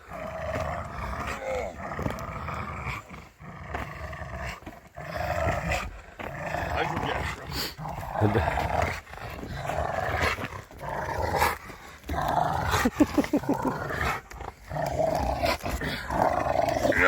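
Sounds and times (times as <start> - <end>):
dog growling: 0.0 - 17.0.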